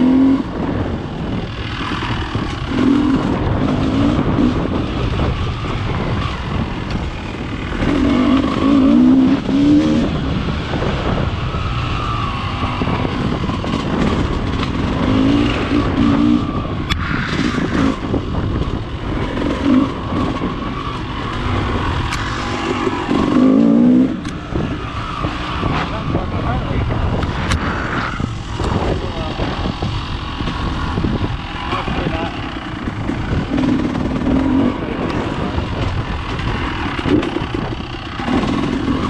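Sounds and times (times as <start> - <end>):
dirt bike engine revving: 0.0 - 39.0
wind rushing over microphone: 0.0 - 39.0.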